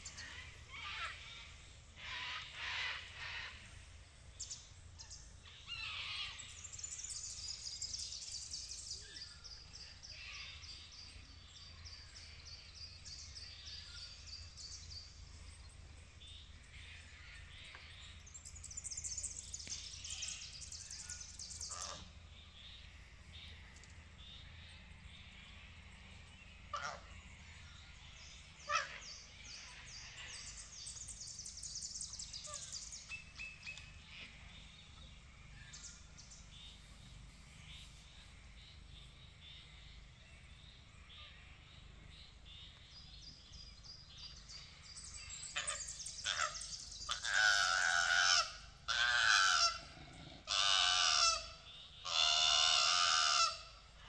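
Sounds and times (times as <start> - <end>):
bird chirping: 4.1 - 48.7.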